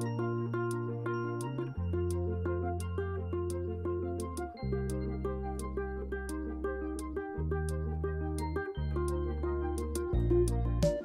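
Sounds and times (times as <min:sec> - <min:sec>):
instrumental music with light beat: 0:00.0 - 0:11.0.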